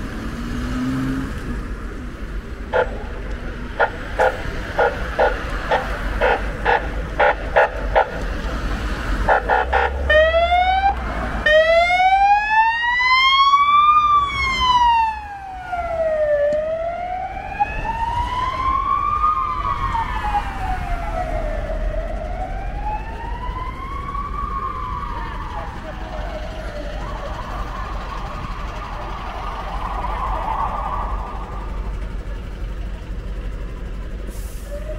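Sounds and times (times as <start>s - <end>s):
emergency siren pulsing and wailing: 2.7s - 34.9s.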